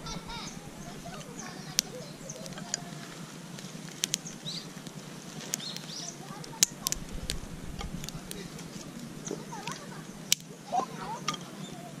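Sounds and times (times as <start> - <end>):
wood popping: 0.0 - 11.6
birds chirping: 0.0 - 12.0
campfire crackling: 0.0 - 12.0.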